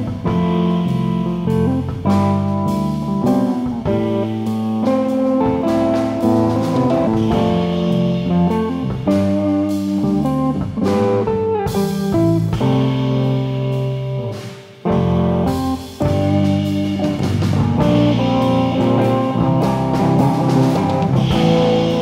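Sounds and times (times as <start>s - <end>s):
bass: 0.0s - 22.0s
drum kit: 0.0s - 22.0s
electric guitar chords and melody: 0.0s - 22.0s.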